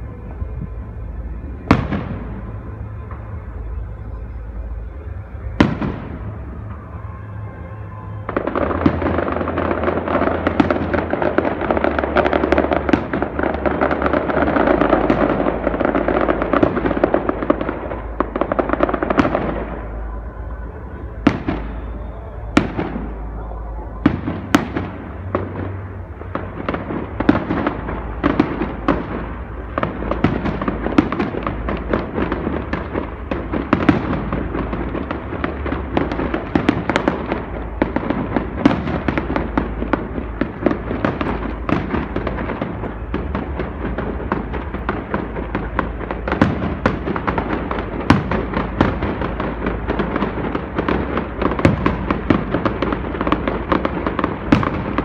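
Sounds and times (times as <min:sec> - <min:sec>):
low rumble: 0:00.0 - 0:55.0
fireworks cracking and popping: 0:08.2 - 0:55.0.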